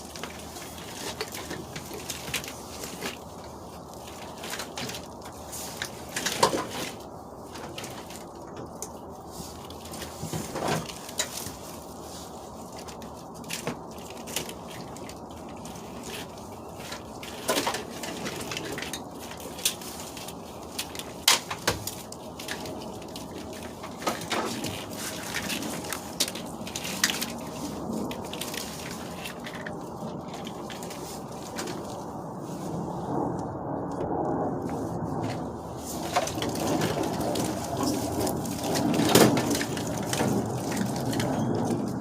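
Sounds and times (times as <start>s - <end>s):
wiring harness rustling and knocking: 0.0s - 32.2s, 34.7s - 42.0s.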